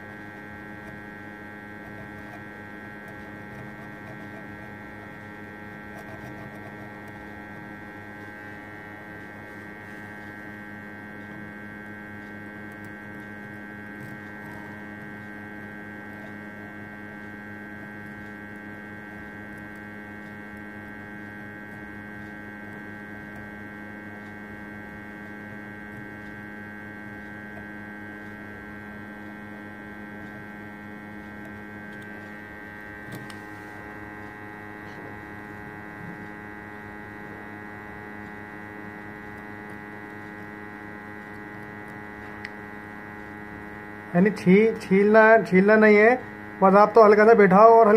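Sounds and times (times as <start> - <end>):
hot air station humming: 0.0 - 47.9.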